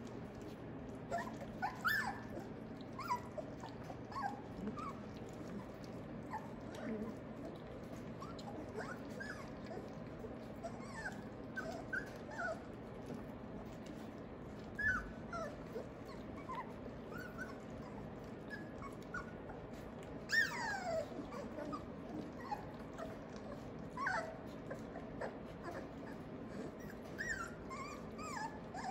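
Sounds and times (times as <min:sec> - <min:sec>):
puppies feeding at metal pan: 0:00.0 - 0:28.9
puppy whining: 0:00.0 - 0:28.9
puppies whimpering and yipping: 0:01.0 - 0:12.9, 0:13.8 - 0:28.9.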